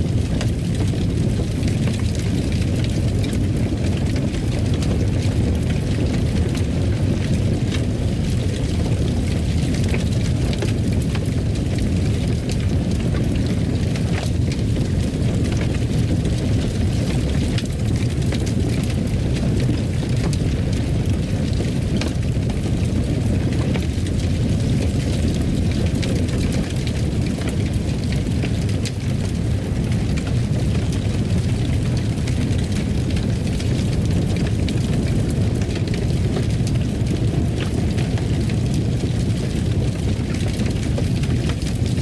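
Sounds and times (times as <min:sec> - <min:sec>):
fire crackling and popping: 0:00.0 - 0:42.0
fire roaring: 0:00.0 - 0:42.0.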